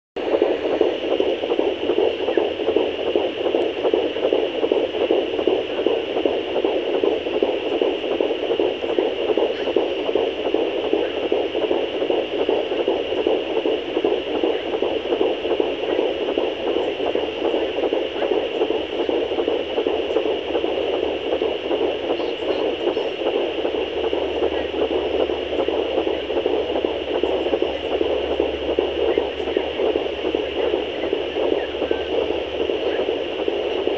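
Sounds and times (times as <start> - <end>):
doppler speaker hiss: 0.2 - 33.9
fetal heartbeat pulsing: 0.2 - 33.9.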